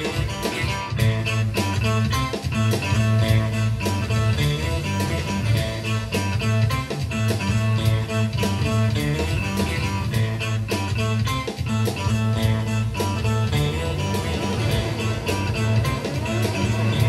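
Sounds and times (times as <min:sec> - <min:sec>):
drum machine beat: 0:00.0 - 0:17.0
electric guitar: 0:00.0 - 0:17.0
repeating bass line: 0:00.0 - 0:17.0.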